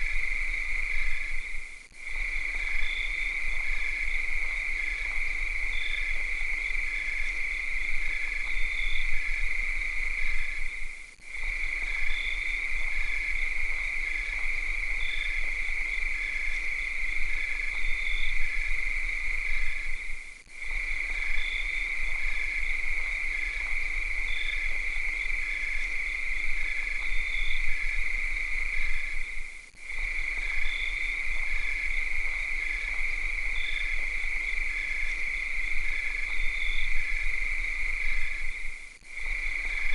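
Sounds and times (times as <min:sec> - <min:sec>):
cicadas shrill drone: 0:00.0 - 0:39.9
fast pulsing insect chirp: 0:00.0 - 0:39.9.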